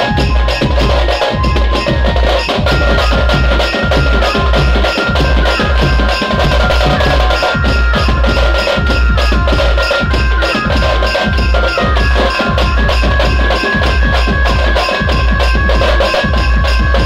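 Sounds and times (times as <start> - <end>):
fast drumming on large drum: 0.0 - 17.0
heavy bass beat from speakers: 0.0 - 17.0
high held melody: 0.0 - 17.0.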